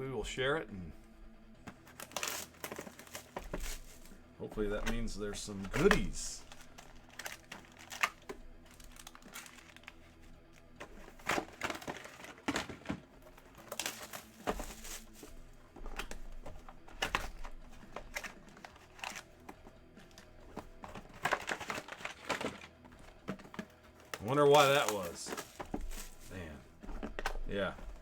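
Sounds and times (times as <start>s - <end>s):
plastic packaging crinkling: 1.8s - 10.2s, 10.9s - 27.3s.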